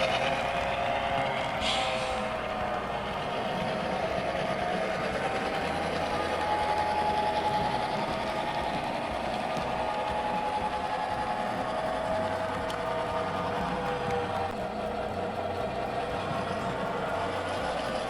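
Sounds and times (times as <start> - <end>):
model locomotive running: 0.0 - 18.0.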